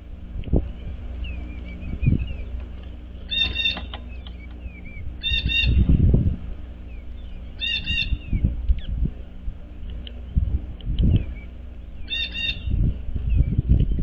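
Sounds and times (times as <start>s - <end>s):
songbirds harsh repeated notes: 0.0s - 14.0s.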